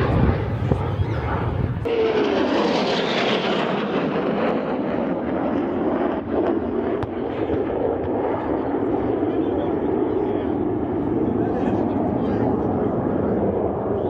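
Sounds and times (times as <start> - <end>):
jet aircraft passing: 0.0 - 14.0.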